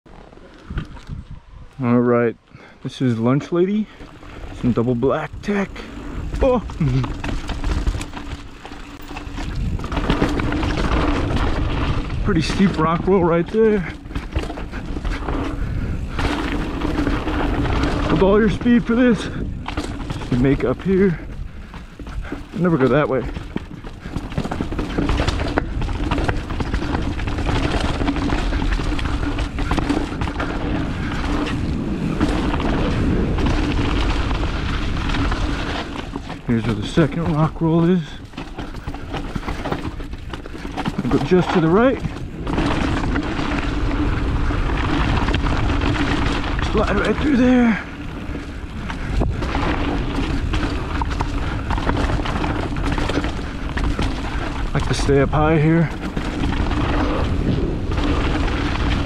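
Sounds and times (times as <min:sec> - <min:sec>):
wind buffeting microphone: 0:00.1 - 0:02.0, 0:03.7 - 0:59.0
bike tyres crunching over stone: 0:02.6 - 0:59.0
bike knocks and rattles: 0:03.2 - 0:59.0.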